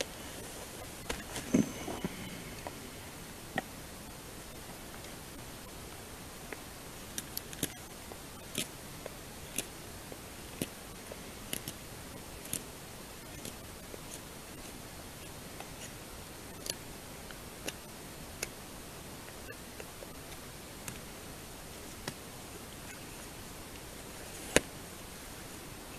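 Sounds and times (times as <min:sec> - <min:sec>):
faint steady hiss: 0:00.0 - 0:25.9.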